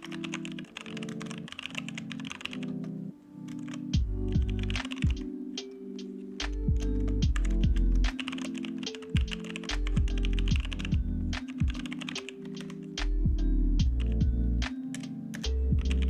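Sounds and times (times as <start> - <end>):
computer keyboard typing: 0.0 - 13.0, 13.8 - 16.0
background music with steady beat: 0.0 - 16.0.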